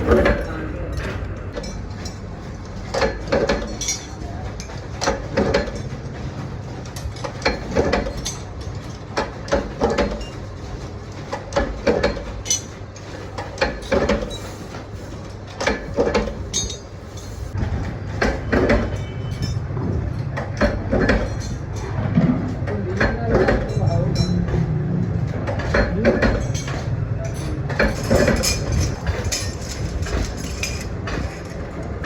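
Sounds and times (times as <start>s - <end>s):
knocks and clinks: 0.0s - 14.6s, 15.6s - 17.6s, 18.2s - 24.8s, 25.4s - 31.6s.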